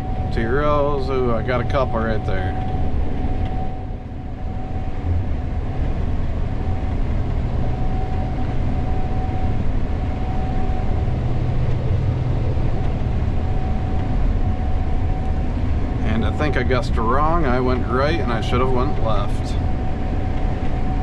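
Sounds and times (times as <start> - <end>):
combine engine and threshing rumble: 0.0 - 21.0
thin steady whine: 0.0 - 21.0.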